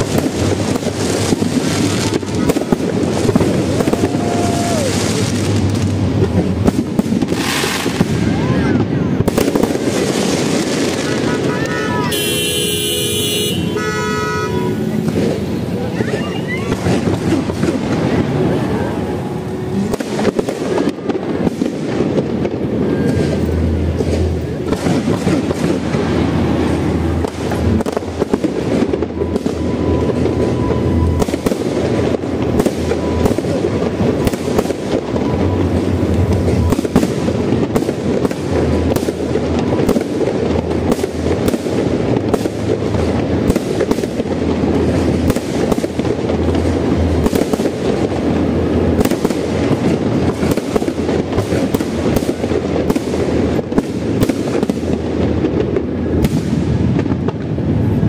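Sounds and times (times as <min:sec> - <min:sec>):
fireworks bangs and crackling: 0:00.0 - 0:58.0
fireworks booming: 0:00.0 - 0:58.0.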